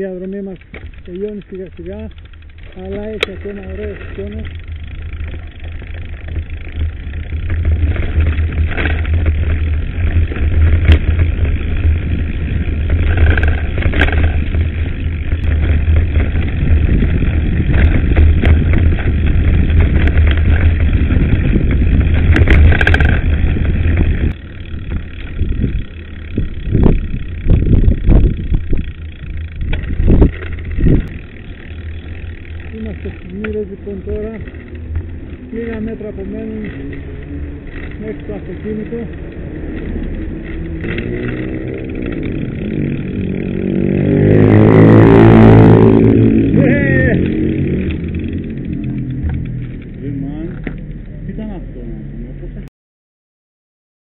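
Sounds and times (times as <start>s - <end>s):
bike rattling and knocking: 0.0s - 51.6s
steady low rumble: 0.0s - 52.7s
wind buffeting microphone: 1.7s - 50.0s.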